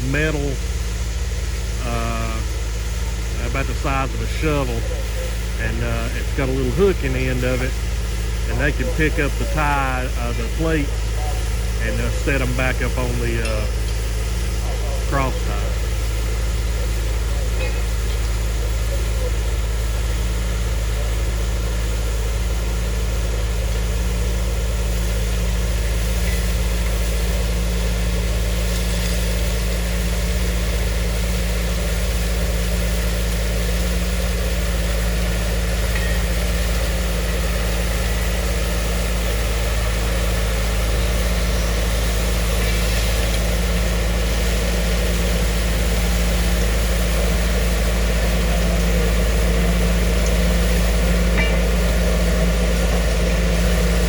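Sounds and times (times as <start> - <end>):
machine engine rumbling: 0.0 - 54.0.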